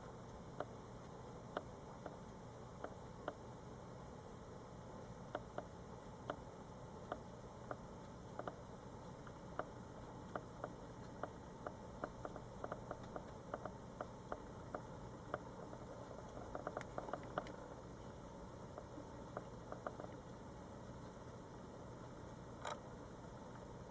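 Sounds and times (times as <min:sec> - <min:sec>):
faint steady hum: 0:00.0 - 0:23.9
light irregular clicks: 0:00.0 - 0:23.9.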